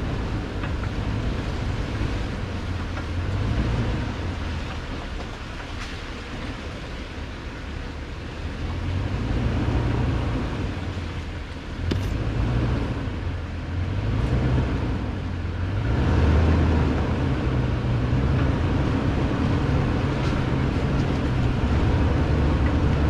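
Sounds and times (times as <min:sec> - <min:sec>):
low engine drone: 0:00.0 - 0:23.0
tyres rolling over dirt: 0:00.0 - 0:23.0.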